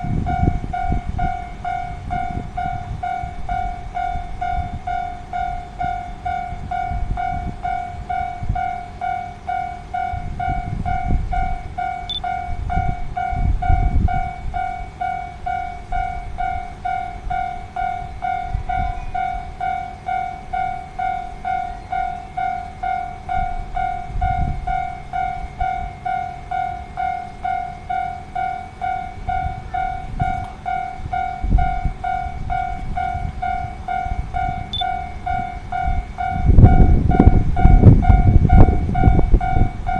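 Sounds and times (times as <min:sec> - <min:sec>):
level-crossing alarm bell ringing: 0:00.0 - 0:39.9.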